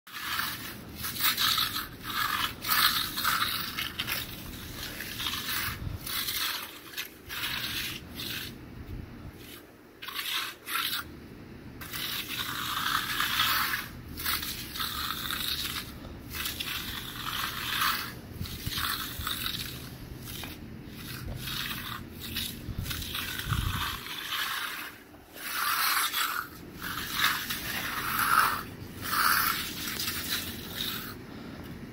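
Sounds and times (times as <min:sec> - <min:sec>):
trowel scraping wet concrete: 0:00.1 - 0:11.1, 0:11.8 - 0:31.2.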